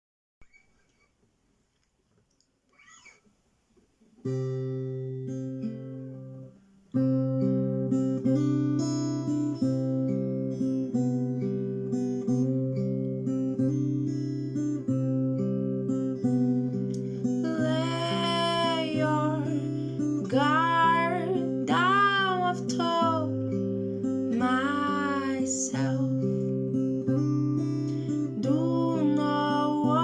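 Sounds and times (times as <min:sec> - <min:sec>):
acoustic guitar strumming chords: 0:04.3 - 0:30.0.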